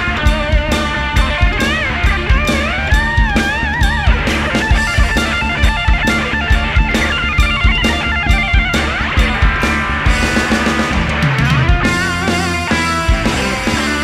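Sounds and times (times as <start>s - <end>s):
bass guitar: 0.0s - 14.0s
drum kit beat: 0.0s - 14.0s
electric guitars: 0.0s - 14.0s.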